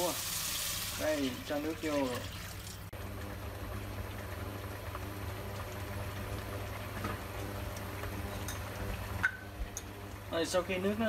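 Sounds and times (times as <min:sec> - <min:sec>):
sauce bubbling in frying pan: 0:00.0 - 0:11.0.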